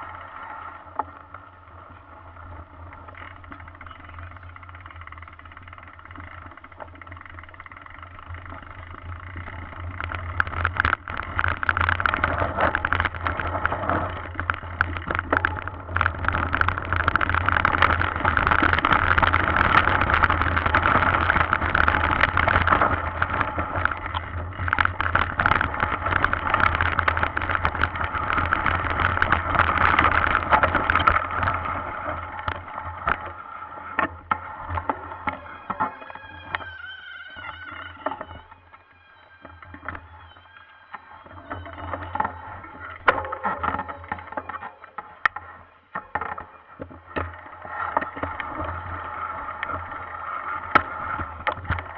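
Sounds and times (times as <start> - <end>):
mountain bike rattling: 0.0 - 51.9
steady buzzing tone: 0.0 - 51.9.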